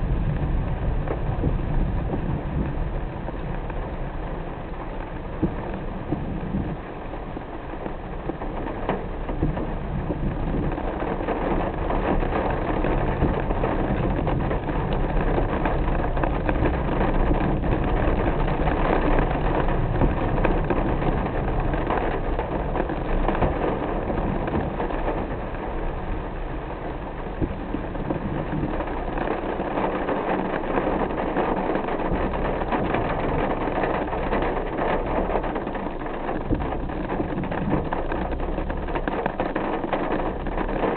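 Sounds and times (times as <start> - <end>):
car engine: 0.0 - 40.9
rain falling on a car: 0.0 - 40.9
road noise: 0.0 - 40.9.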